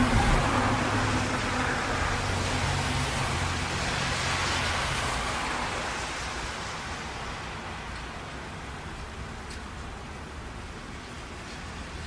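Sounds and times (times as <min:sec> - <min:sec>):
passing vehicles rumbling: 0:00.0 - 0:12.0
tyre spray on wet road: 0:00.0 - 0:12.0.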